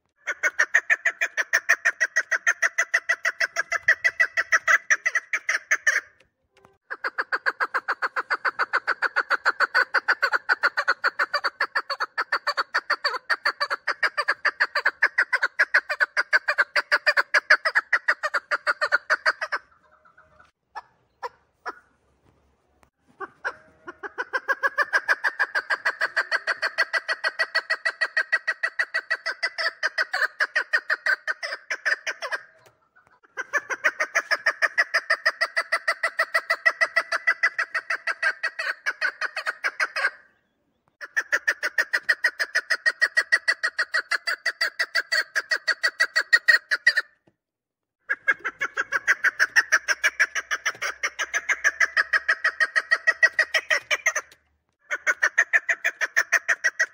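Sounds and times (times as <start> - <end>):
partridge calling: 0.0 - 6.2, 6.8 - 22.0, 23.0 - 47.2, 48.0 - 56.9.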